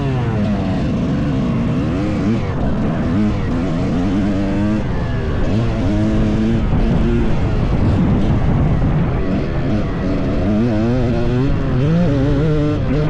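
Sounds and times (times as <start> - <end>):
two-stroke dirt bike engine revving: 0.0 - 13.0.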